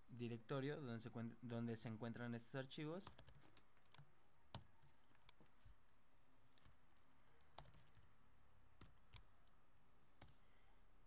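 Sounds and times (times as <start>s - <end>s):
quiet background hiss: 0.0s - 11.0s.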